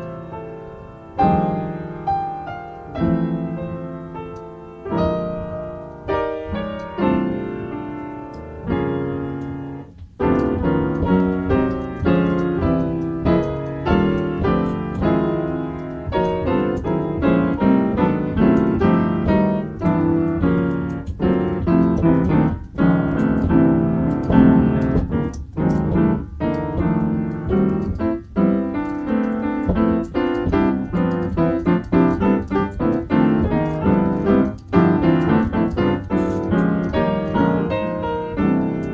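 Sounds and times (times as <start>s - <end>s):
solo piano improvisation: 0.0s - 38.9s.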